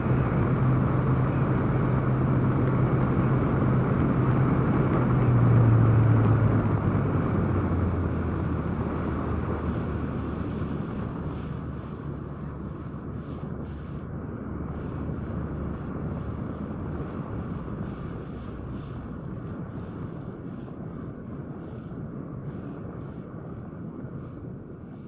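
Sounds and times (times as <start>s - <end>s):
boat engine hum: 0.0s - 25.0s
wind on microphone: 0.0s - 25.0s.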